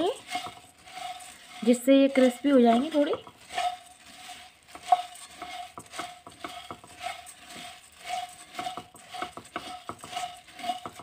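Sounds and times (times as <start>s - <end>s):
grains scraping against pan: 0.0s - 11.0s
wooden spatula stirring puffed rice: 0.0s - 11.0s.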